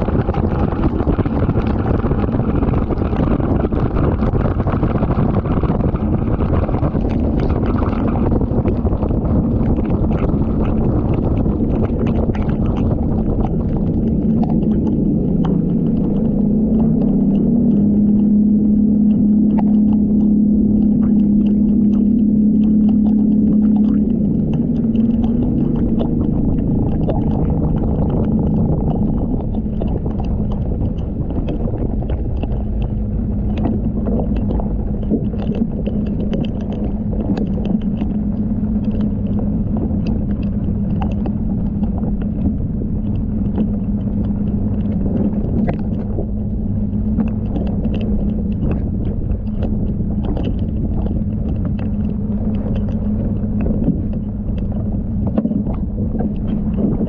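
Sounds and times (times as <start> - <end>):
outboard motor running flat out: 0.0 - 57.0
wind and water rumble: 0.0 - 57.0.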